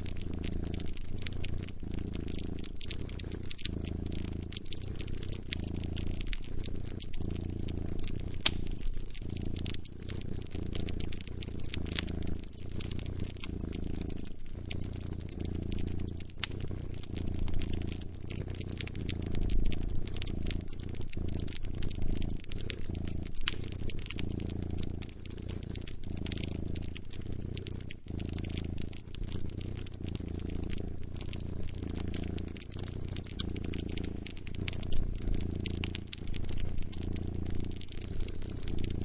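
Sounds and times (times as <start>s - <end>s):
cat purring: 0.0s - 39.0s
wood fire crackling: 0.0s - 39.0s.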